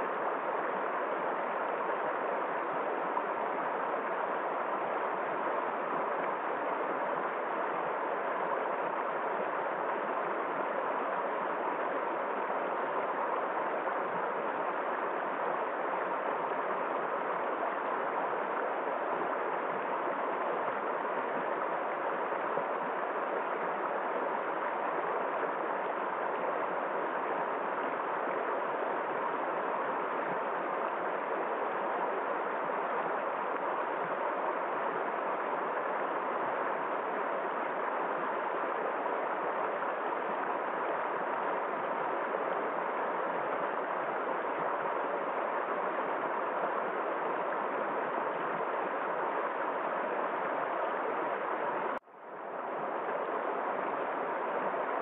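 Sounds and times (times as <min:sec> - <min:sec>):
river rushing over stones: 0:00.0 - 0:55.0.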